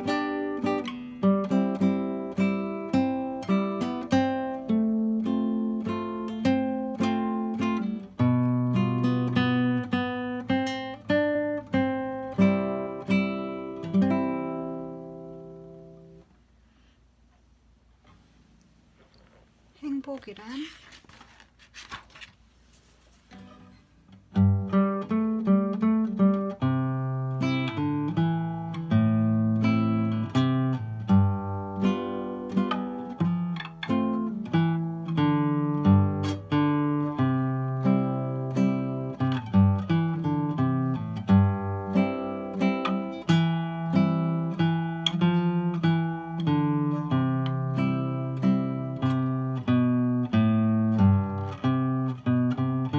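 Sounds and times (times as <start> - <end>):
classical guitar melody: 0.0 - 16.3, 23.3 - 52.9.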